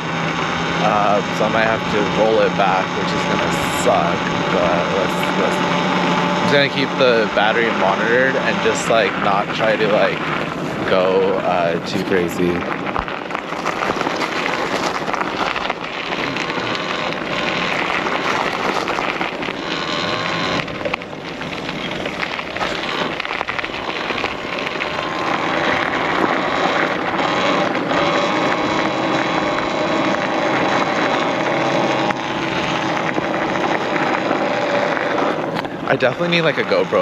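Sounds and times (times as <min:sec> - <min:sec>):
faint steady hum: 0:00.0 - 0:37.0
tyre and road noise: 0:00.0 - 0:37.0
wind rushing over microphone: 0:00.0 - 0:37.0.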